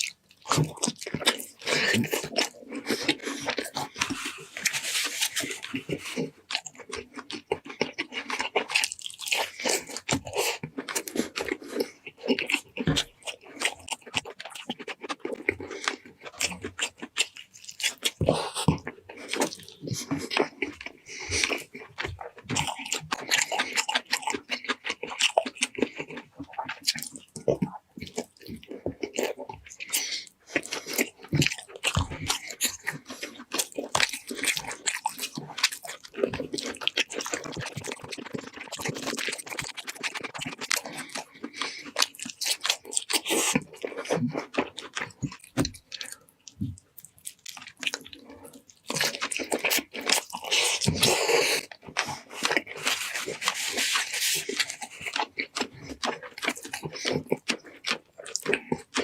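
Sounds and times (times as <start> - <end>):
crunchy bites and chewing: 0.0 - 59.0.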